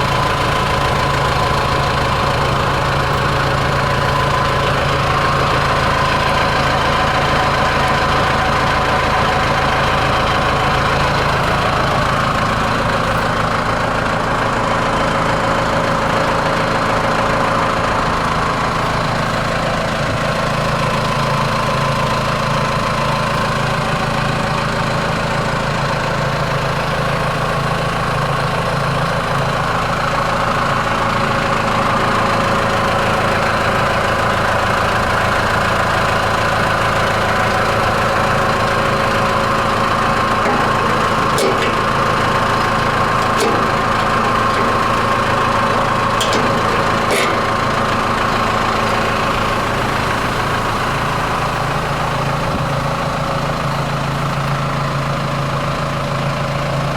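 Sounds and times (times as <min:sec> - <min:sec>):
tractor engine running: 0:00.0 - 0:56.9
wood chipper whine: 0:00.0 - 0:56.9.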